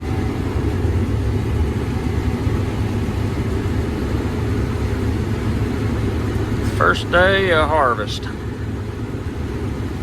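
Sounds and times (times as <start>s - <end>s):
combine harvester engine drone: 0.0s - 10.0s.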